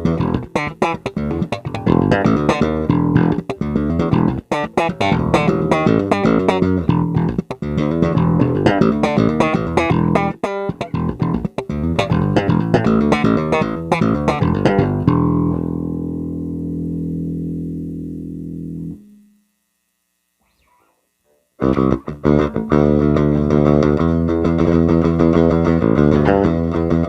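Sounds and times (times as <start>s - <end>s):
plucked bass guitar notes: 0.0s - 19.3s, 21.6s - 27.0s.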